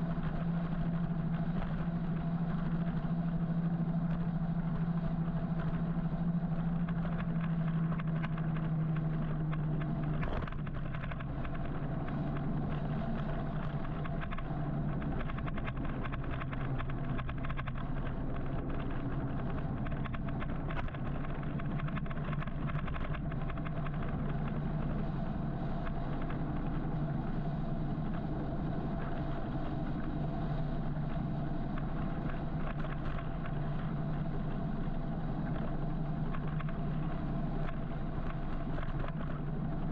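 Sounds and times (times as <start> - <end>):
continuous low hum: 0.0 - 39.9
electric motorcycle riding: 0.0 - 39.9.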